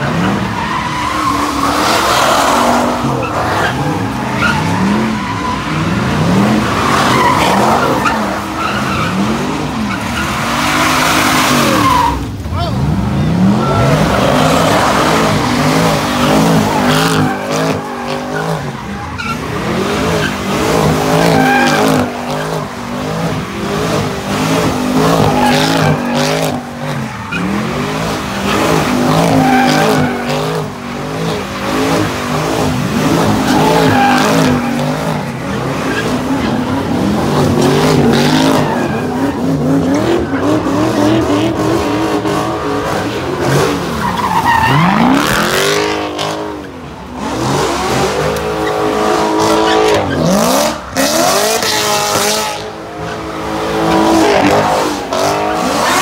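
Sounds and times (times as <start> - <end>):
car engine revving hard: 0.0 - 56.0
tires squealing: 0.0 - 56.0.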